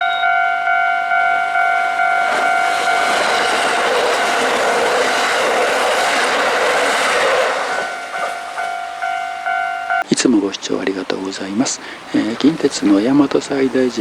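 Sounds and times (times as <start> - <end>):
level-crossing warning bell: 0.0 - 14.0
train wheels rumbling on rails: 0.0 - 14.0.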